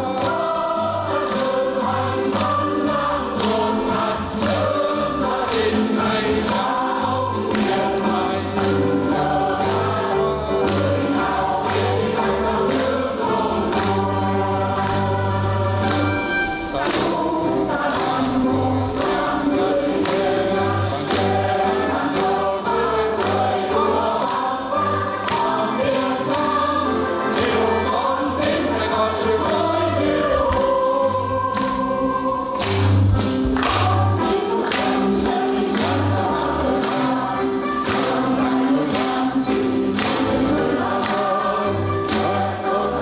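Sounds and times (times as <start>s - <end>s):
instrumental backing with beat: 0.0s - 43.0s
mixed choir singing: 0.0s - 43.0s.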